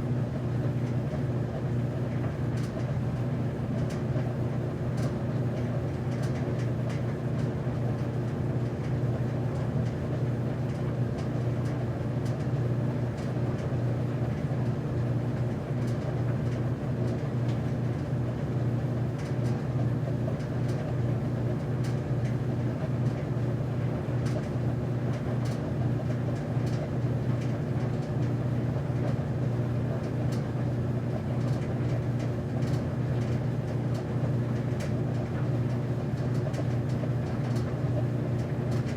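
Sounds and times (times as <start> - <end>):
laundry machine motor hum: 0.0 - 38.9.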